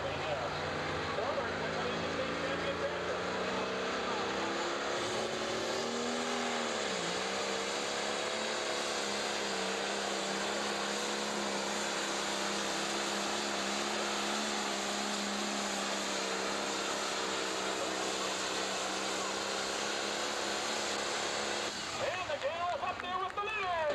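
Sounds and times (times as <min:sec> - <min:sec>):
diesel engine at full throttle: 0:00.0 - 0:23.9.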